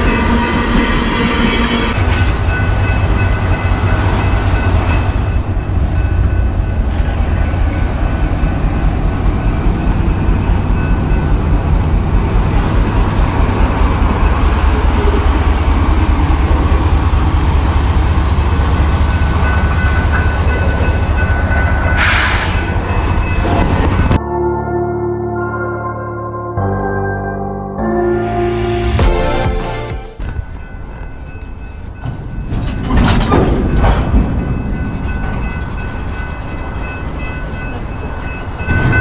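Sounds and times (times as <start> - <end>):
freight train rumbling past: 0.0 - 24.2, 28.5 - 39.0
train wheels on rails: 0.0 - 24.2, 30.2 - 39.0.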